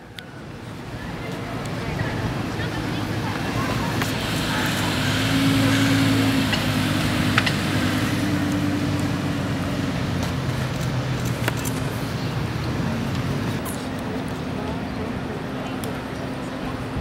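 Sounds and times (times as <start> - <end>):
car engine running at low revs: 1.3 - 17.0.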